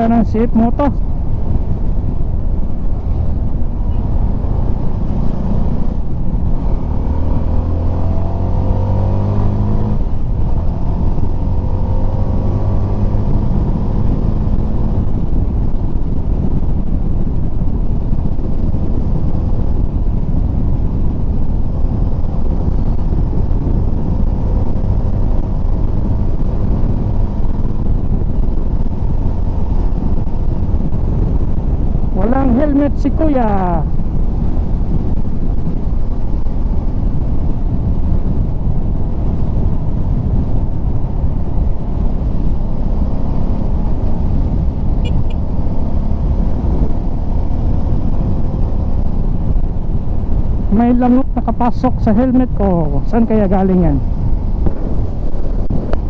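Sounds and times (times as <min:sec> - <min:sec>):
wind and road noise: 0:00.0 - 0:56.0
motorcycle engine running: 0:01.0 - 0:51.6, 0:53.1 - 0:56.0.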